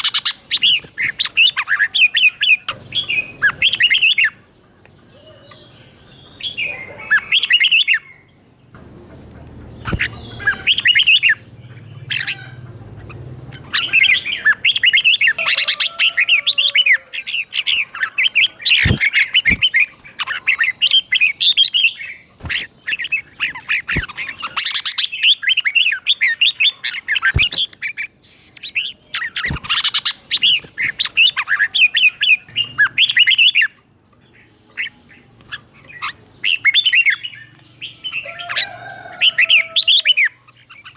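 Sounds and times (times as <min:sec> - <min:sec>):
bird singing warbling phrases: 0:00.0 - 0:40.9.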